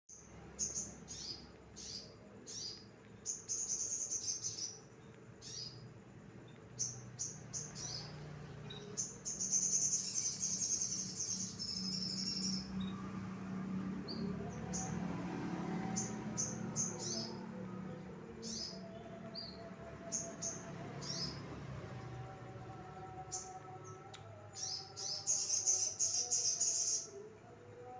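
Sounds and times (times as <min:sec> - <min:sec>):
songbird chirping and trilling: 0:00.1 - 0:27.9.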